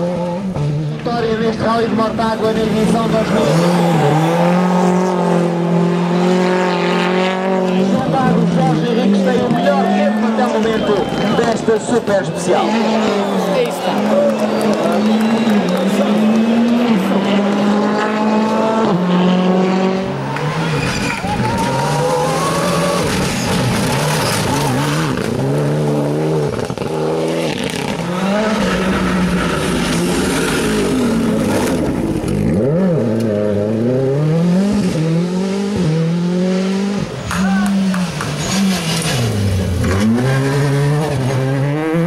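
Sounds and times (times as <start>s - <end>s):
rally car engine at full throttle: 0.0s - 42.0s.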